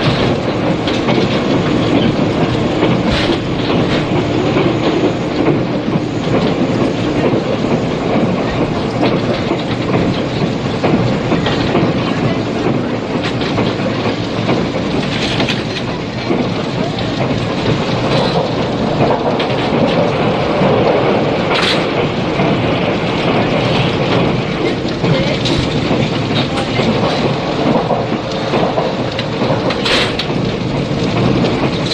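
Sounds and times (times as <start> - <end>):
rail joint clicks: 0.0 - 31.9
train wheels rumbling on rail: 0.0 - 31.9.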